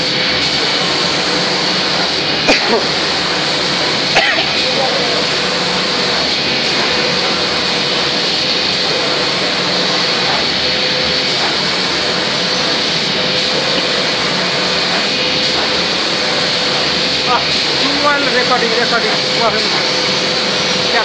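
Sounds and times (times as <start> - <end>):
spray guns hissing: 0.0 - 21.0.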